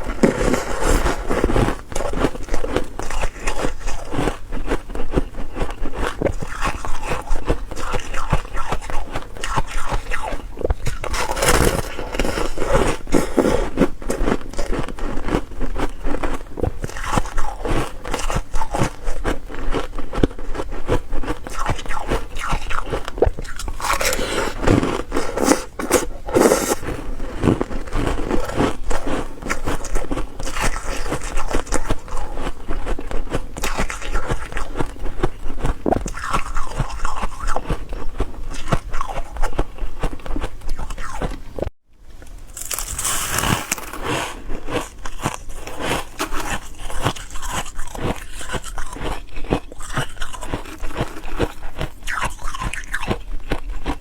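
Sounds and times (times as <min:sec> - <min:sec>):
ice crunching between teeth: 0:00.0 - 0:41.4, 0:42.5 - 0:54.0.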